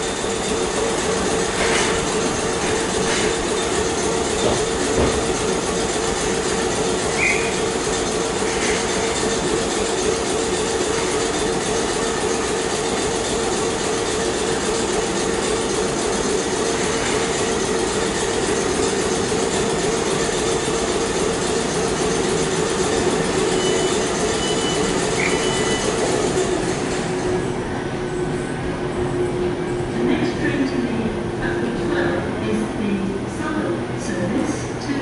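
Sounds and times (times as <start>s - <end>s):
electric train humming: 0.0s - 35.0s.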